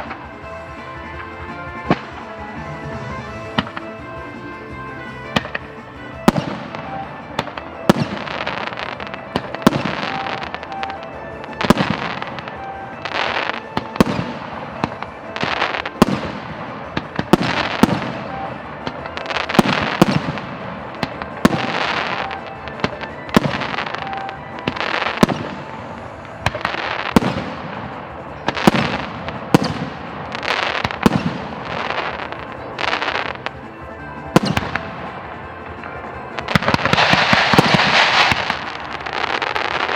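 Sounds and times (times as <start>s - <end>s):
background music: 0.0s - 39.9s
firework shells bursting: 0.0s - 39.9s.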